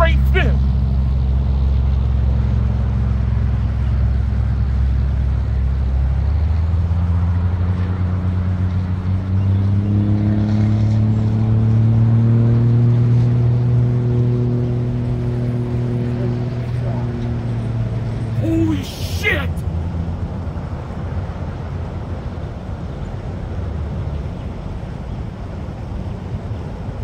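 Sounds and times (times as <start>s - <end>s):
highway traffic drone: 0.0s - 27.0s.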